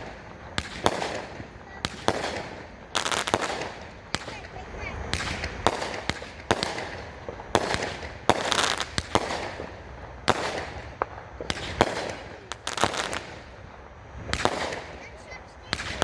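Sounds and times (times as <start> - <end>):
fireworks bangs: 0.0 - 16.0
hissing rush of fireworks shells: 0.0 - 16.0.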